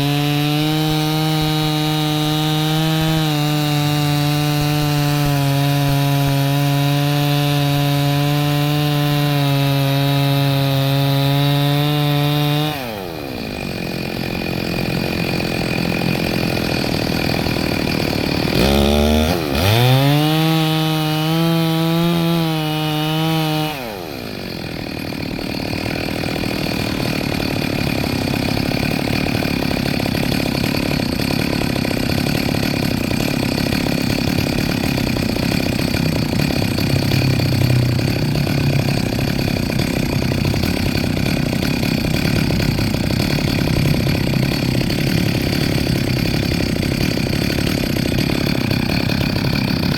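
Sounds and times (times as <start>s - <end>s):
chainsaw revving: 0.0s - 49.9s.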